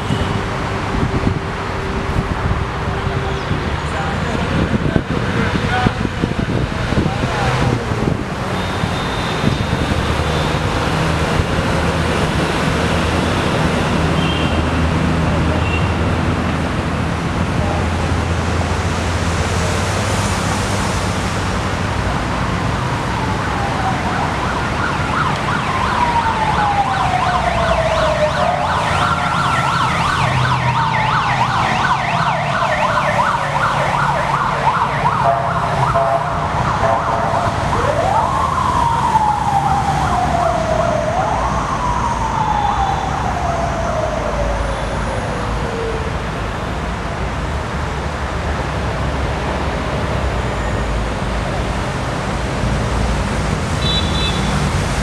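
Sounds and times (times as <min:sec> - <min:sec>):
emergency siren wailing: 0:00.0 - 0:20.6, 0:21.8 - 0:46.6, 0:48.8 - 0:55.0
traffic rumble: 0:00.0 - 0:55.0.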